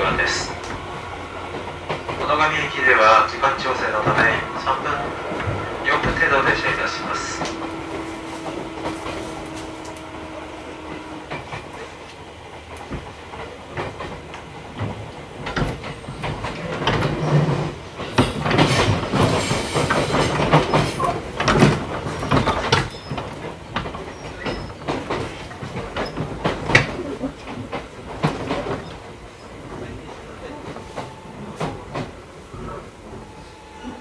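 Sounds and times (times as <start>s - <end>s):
train rumble: 0.0s - 34.0s
wheels clacking over rail joints: 0.0s - 34.0s.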